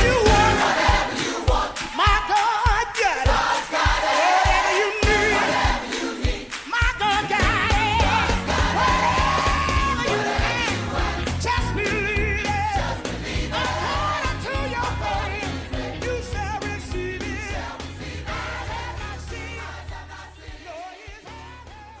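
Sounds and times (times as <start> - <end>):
gospel singing over heavy bass: 0.0 - 22.0.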